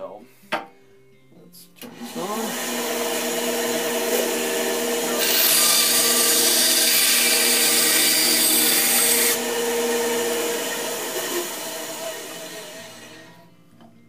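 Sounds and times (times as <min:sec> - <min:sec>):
band saw cutting wood: 0:01.8 - 0:13.4
band saw motor hum: 0:01.8 - 0:13.4.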